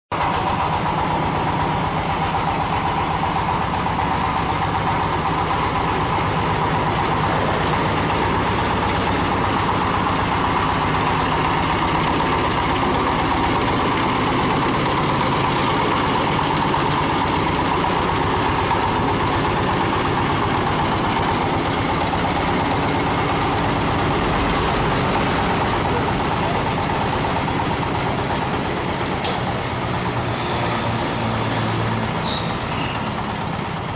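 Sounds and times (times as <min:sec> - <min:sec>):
diesel engine running steadily: 0:00.1 - 0:33.9.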